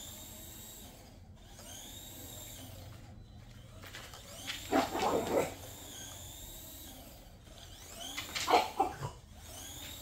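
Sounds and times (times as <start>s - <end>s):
toy car electric motor whine: 0.0s - 10.0s.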